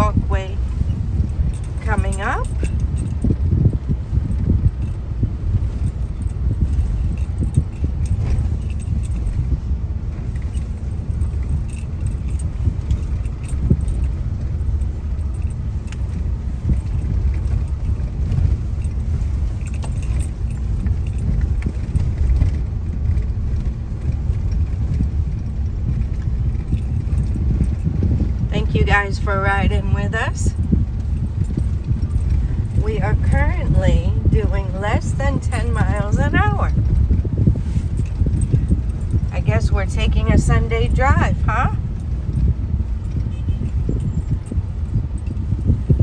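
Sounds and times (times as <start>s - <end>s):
car engine and road rumble: 0.0s - 46.0s
light rattling and jingling: 0.0s - 46.0s.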